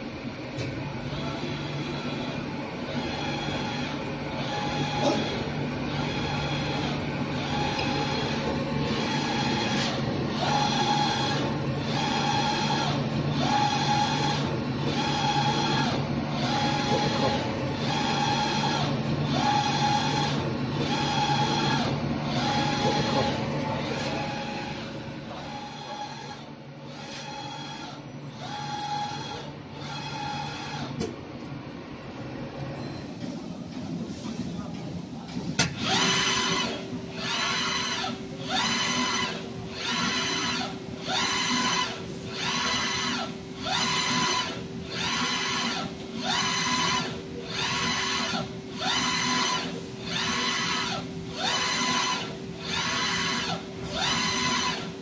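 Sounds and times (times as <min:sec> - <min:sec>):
pulsing machine whine: 0:00.0 - 0:31.0, 0:35.7 - 0:55.0
machine low hum: 0:00.0 - 0:55.0.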